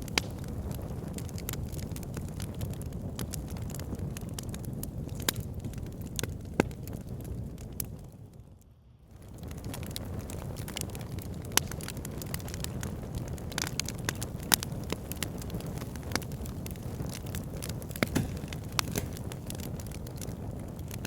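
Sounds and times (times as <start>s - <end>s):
fire pit crackling and popping: 0.0s - 8.4s, 9.1s - 21.0s.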